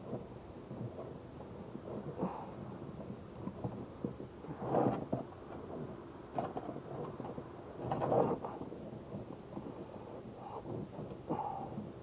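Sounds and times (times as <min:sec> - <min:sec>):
plastic scraping on plastic: 0:00.0 - 0:11.4.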